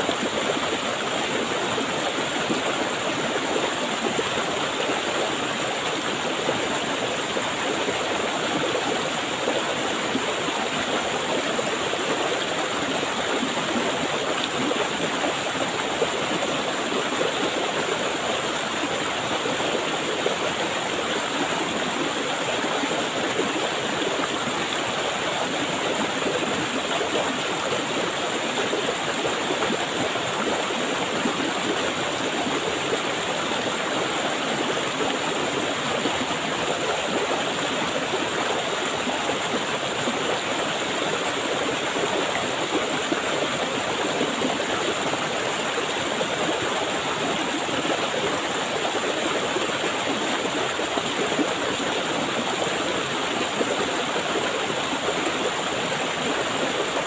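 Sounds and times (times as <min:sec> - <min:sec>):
water rushing over boulders: 0:00.0 - 0:57.0.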